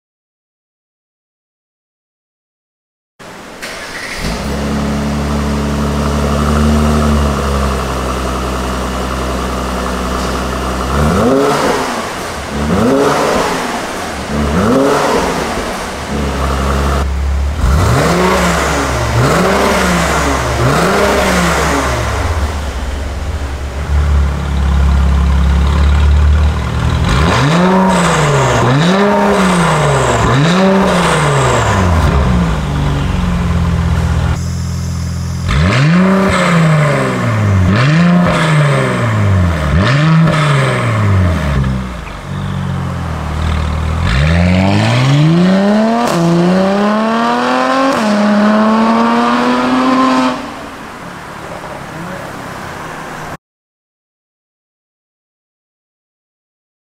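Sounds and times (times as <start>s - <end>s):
car engine starting and idling: 3.2s - 53.4s
engine revving: 3.6s - 50.8s.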